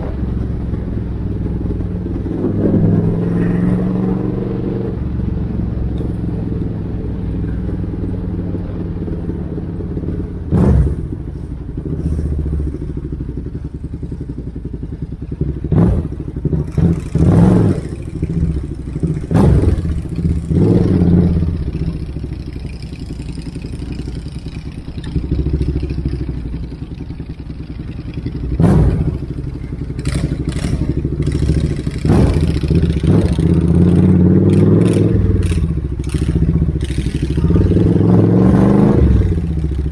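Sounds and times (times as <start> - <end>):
motorcycle engines rumbling: 0.0 - 39.9
sharp exhaust bursts: 0.0 - 39.9.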